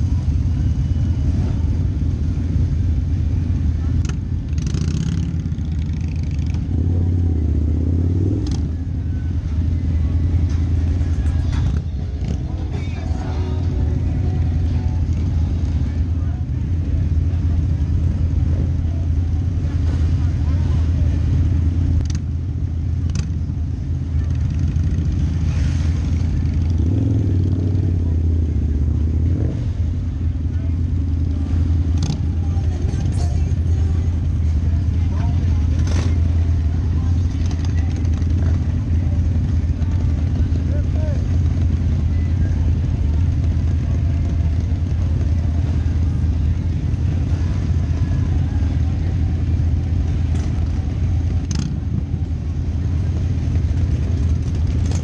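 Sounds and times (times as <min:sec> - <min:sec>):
motorcycle engine low rumble: 0:00.0 - 0:55.0
other motorcycles: 0:00.0 - 0:55.0.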